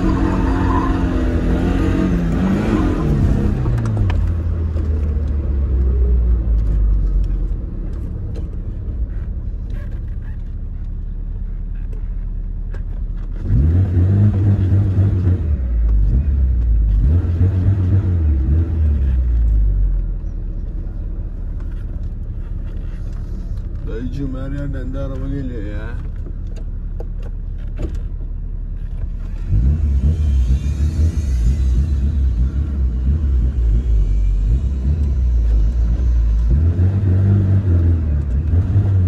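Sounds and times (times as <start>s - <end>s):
car engine heard from cabin: 0.0s - 39.0s.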